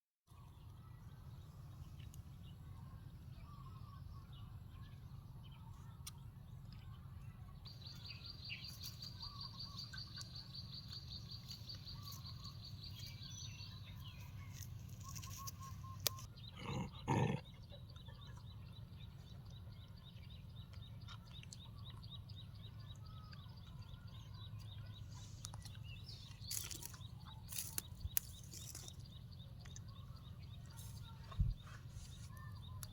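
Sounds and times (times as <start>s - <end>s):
bird chirping: 0.3s - 32.9s
low steady hum: 0.3s - 32.9s.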